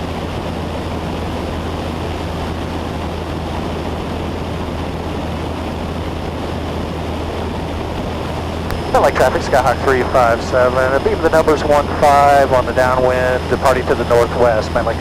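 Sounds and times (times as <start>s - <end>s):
propeller plane engine droning: 0.0s - 15.0s
rushing air noise: 0.0s - 15.0s.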